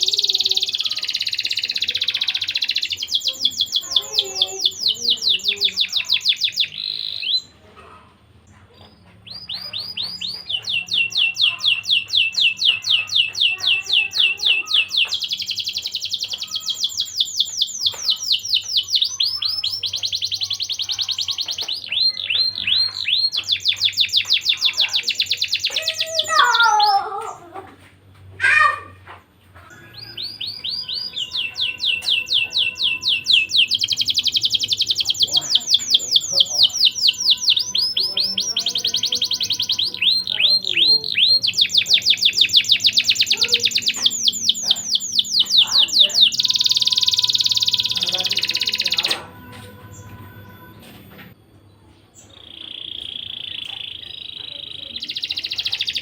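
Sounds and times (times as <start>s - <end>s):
canary singing trills: 0.0s - 7.7s, 8.4s - 27.5s, 29.6s - 56.0s.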